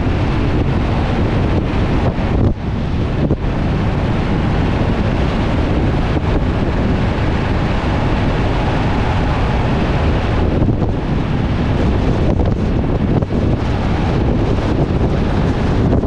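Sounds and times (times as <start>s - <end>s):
truck rumbling at speed: 0.0s - 16.0s
wind buffeting microphone: 0.0s - 16.0s.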